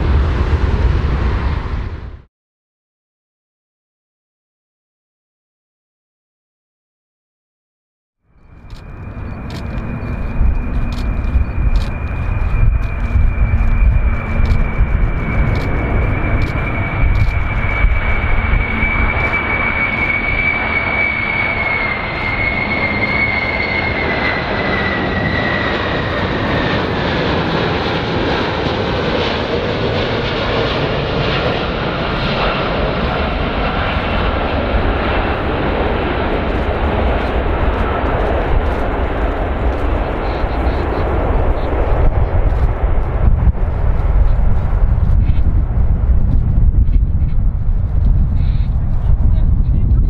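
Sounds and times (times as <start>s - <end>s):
jet engine high whine: 0.0s - 2.3s, 8.3s - 50.0s
jet engines roaring: 0.0s - 2.3s, 8.4s - 50.0s.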